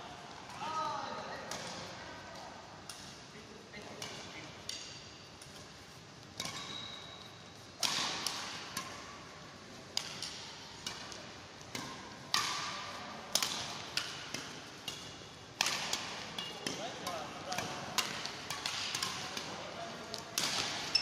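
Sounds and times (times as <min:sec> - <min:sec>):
rackets hitting shuttlecock: 0:01.4 - 0:03.2, 0:03.8 - 0:05.8, 0:06.4 - 0:21.0.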